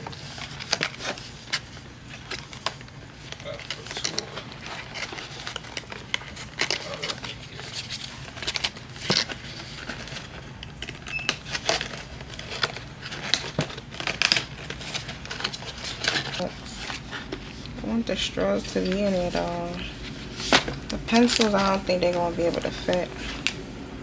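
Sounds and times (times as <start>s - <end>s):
packaging crinkling: 0.0s - 23.6s.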